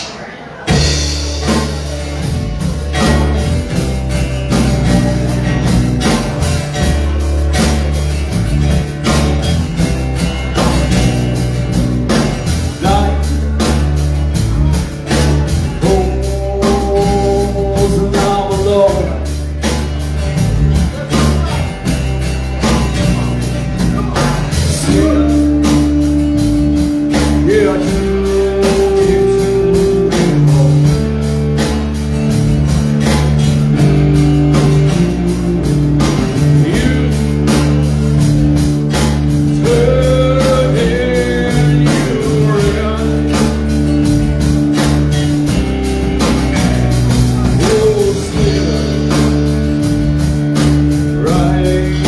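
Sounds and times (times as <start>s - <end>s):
live rock band playing: 0.0s - 52.0s.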